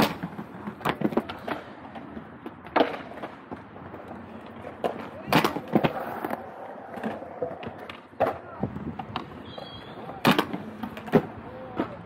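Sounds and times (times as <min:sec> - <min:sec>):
skate wheels rolling on concrete: 0:00.0 - 0:12.0
skates clacking on concrete ledge: 0:00.0 - 0:12.0.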